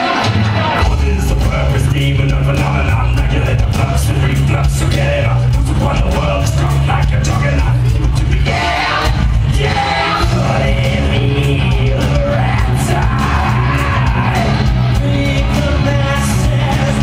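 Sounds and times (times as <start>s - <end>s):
loud rock band: 0.0s - 17.0s
person singing and yelling: 0.0s - 17.0s.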